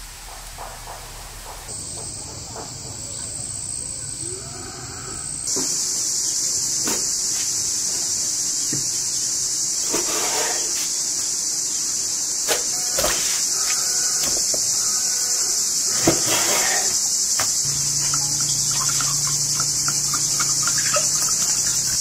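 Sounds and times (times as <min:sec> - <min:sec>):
insects chirring: 0:00.1 - 0:22.0.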